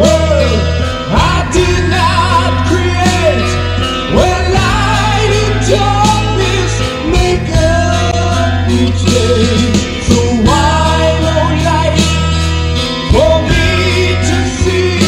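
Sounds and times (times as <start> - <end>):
person singing: 0.0 - 12.3, 13.0 - 15.0
metal band playing: 0.0 - 15.0.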